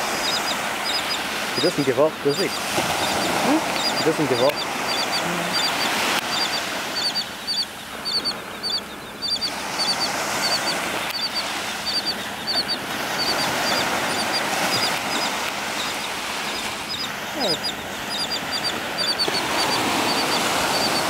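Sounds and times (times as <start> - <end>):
surf hissing: 0.0 - 21.0
terns calling: 0.0 - 21.0
wind: 0.0 - 21.0.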